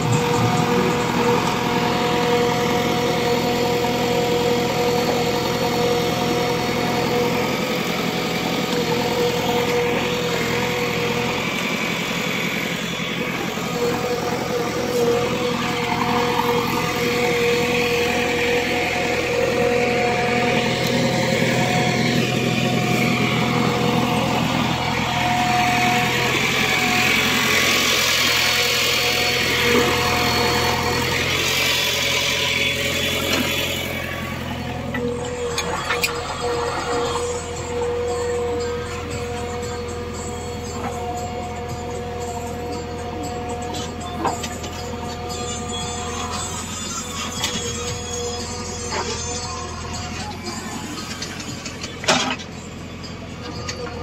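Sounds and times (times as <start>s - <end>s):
diesel engine running: 0.0s - 54.0s
steady whine: 0.0s - 54.0s.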